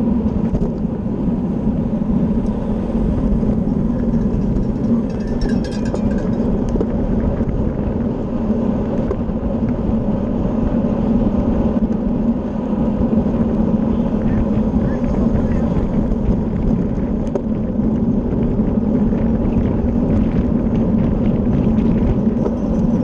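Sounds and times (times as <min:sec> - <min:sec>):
tyres humming on road: 0:00.0 - 0:23.0
wind rushing over microphone: 0:00.0 - 0:23.0.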